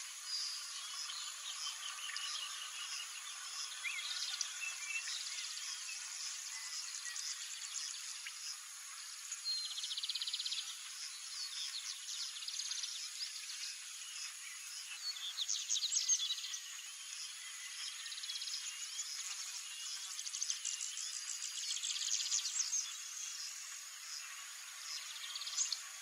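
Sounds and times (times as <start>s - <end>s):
wild birds chirping: 0.0s - 26.0s.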